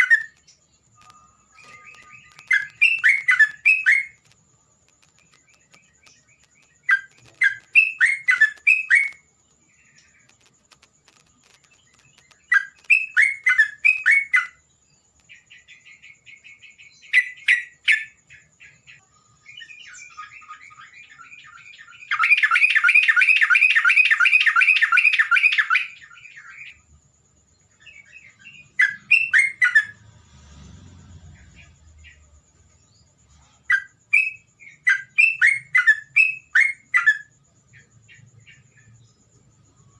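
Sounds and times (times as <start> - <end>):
bulbul chirping song: 0.0 - 30.1, 31.2 - 39.9.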